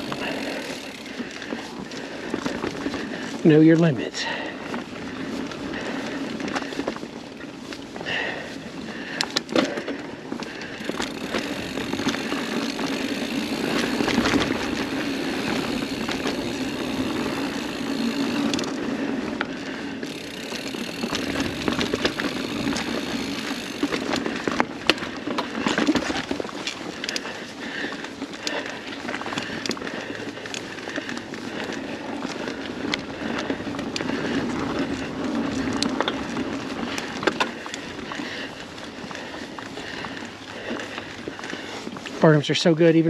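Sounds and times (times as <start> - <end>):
bike rattling over bumps: 0.0 - 43.0
bike tyres rolling on dirt: 0.0 - 43.0.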